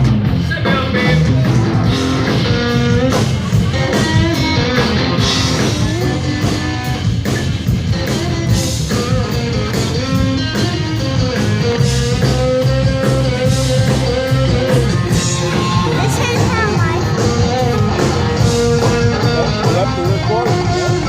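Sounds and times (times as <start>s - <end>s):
bass: 0.0s - 21.0s
drum kit steady beat: 0.0s - 21.0s
guitar bending notes: 0.0s - 21.0s.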